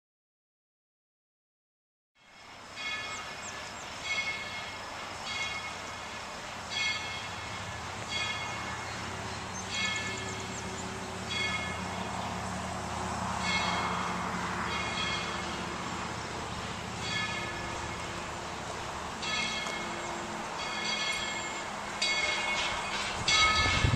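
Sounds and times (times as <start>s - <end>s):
locomotive bell ringing: 2.2s - 12.5s, 13.3s - 23.9s
low rumble of train: 2.2s - 23.9s.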